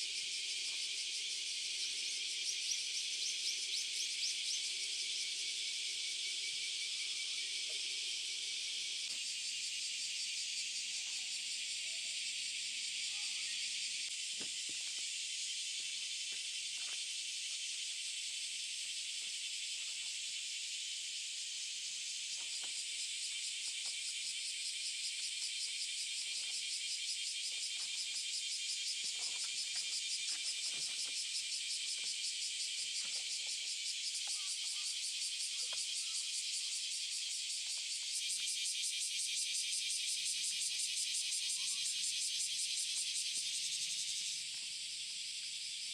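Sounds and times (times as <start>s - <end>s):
insects chirping: 0.0s - 45.9s.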